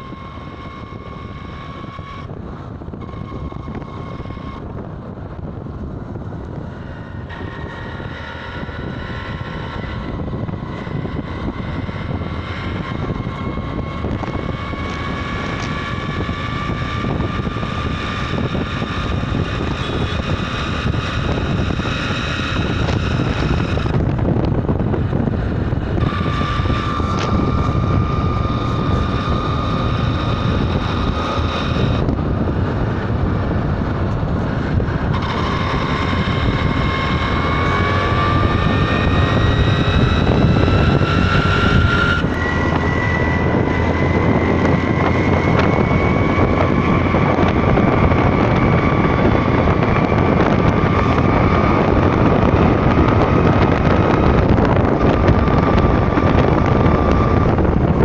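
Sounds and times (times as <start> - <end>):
road and wind noise: 0.0 - 58.0
whine rising in pitch: 0.0 - 58.0.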